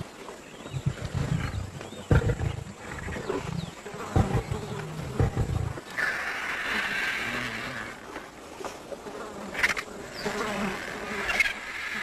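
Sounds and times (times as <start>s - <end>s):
flies buzzing: 2.1s - 12.0s.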